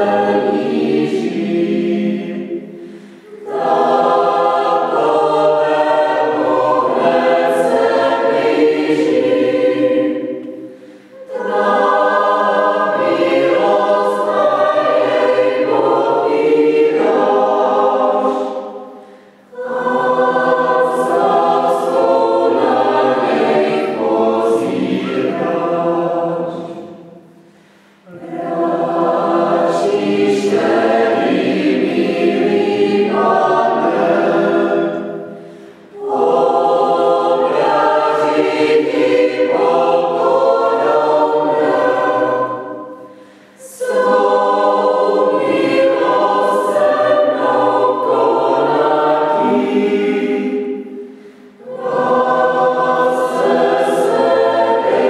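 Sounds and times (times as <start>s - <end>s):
choir singing a hymn unaccompanied: 0.0s - 55.0s.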